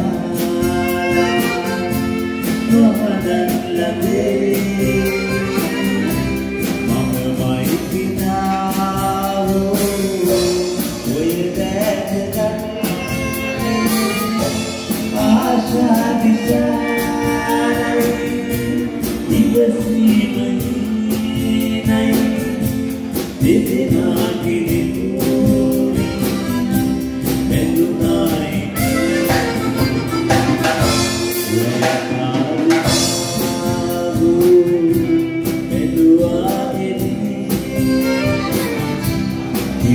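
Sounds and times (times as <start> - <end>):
person singing: 0.0 - 39.9
sustained instrumental music: 0.0 - 39.9.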